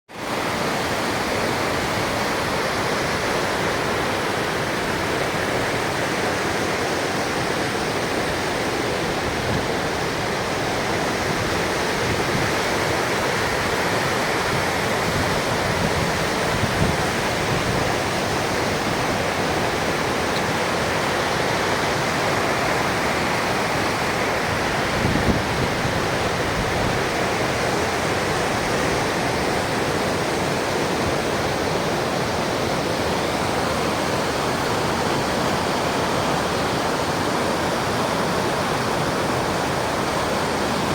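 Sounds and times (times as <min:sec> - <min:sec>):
mountain river rushing: 0:00.1 - 0:40.9.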